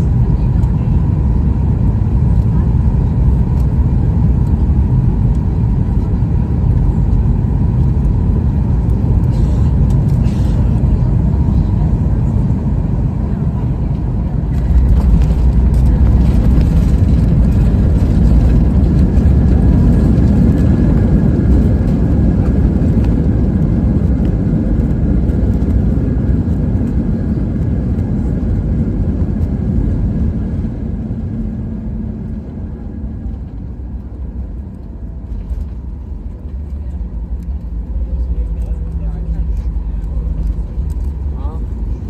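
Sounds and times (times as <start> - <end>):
rumble of engines and runway: 0.0 - 42.0.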